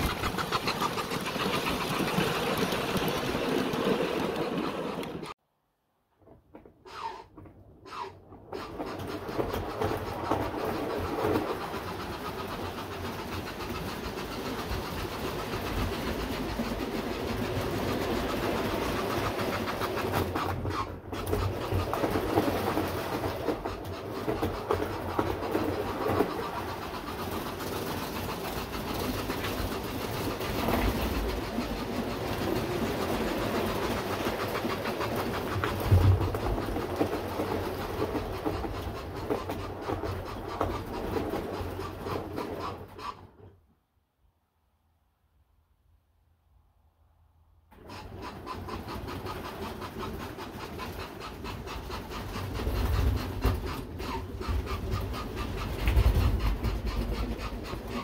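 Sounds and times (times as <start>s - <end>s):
model train wheels clicking on rails: 0.0s - 5.4s, 6.6s - 43.5s, 47.7s - 58.0s.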